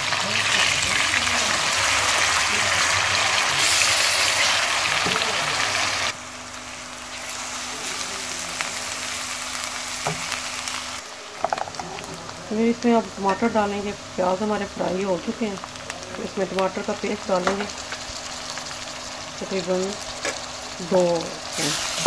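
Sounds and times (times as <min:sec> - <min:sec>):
paste sizzling in hot oil: 0:00.0 - 0:22.0.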